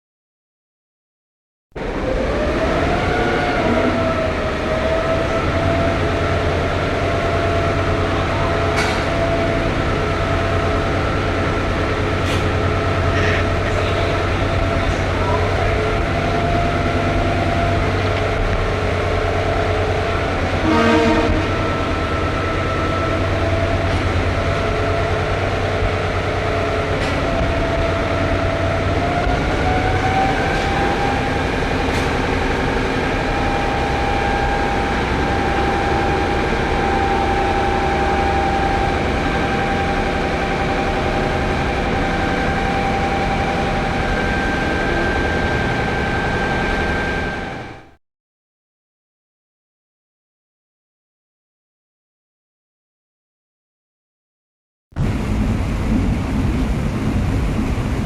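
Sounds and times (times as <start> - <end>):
train running: 1.8 - 48.0, 55.0 - 58.0.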